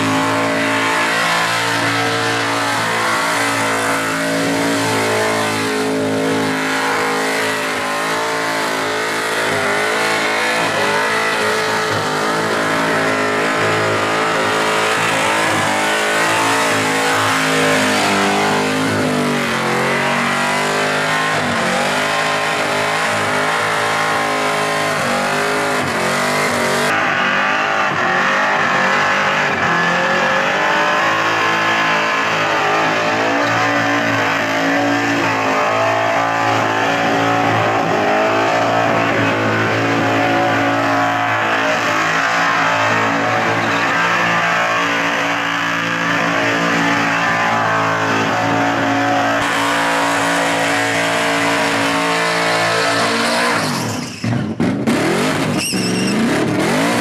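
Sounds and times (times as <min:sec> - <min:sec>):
car engine revving high: 0:00.0 - 0:57.0.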